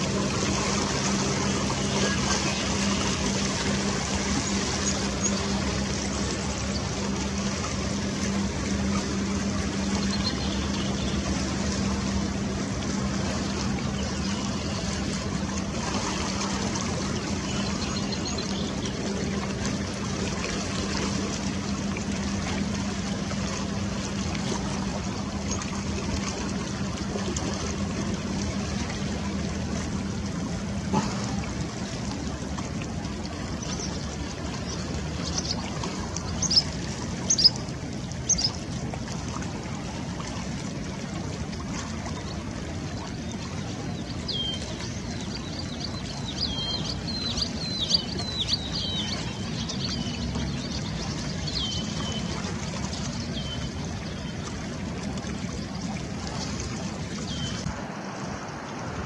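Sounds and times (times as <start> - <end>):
low steady hum: 0.0 - 59.0
river water washing: 0.0 - 59.0.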